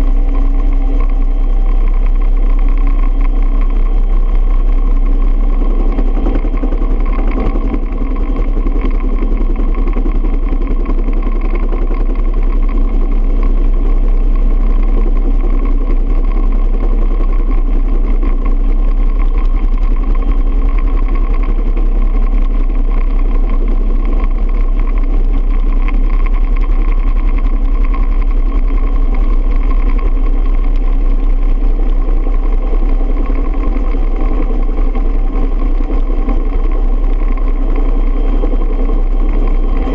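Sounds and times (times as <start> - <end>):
heavy rumble of rotor and wind: 0.0 - 39.9
helicopter turbine whine: 0.0 - 39.9.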